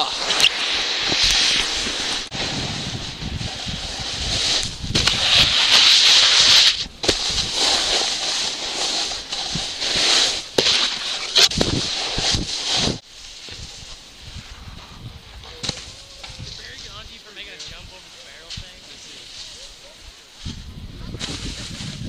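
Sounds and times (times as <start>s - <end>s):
snowboard scraping over snow: 0.0s - 22.0s.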